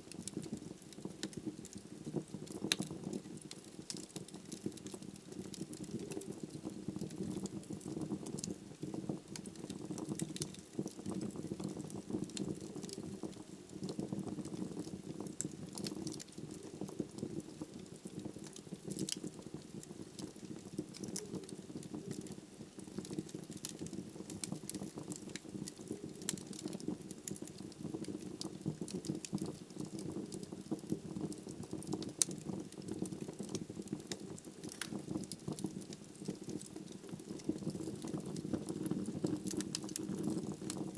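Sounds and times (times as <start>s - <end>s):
fire rumbling: 0.0s - 40.9s
wood crackling and popping: 0.0s - 40.9s.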